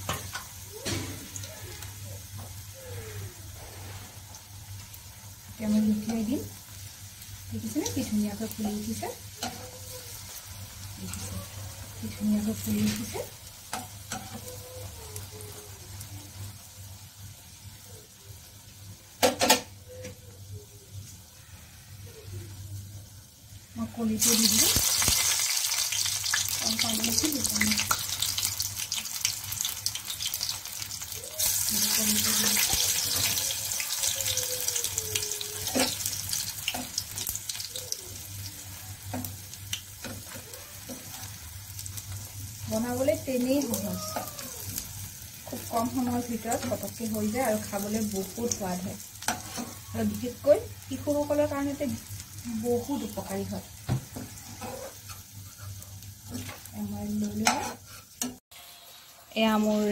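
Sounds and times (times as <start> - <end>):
oil sizzling faintly: 0.0 - 59.9.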